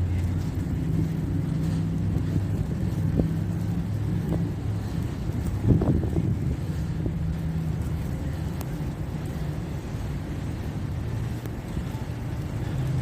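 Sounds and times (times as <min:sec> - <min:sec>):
traffic engines humming: 0:00.0 - 0:13.0.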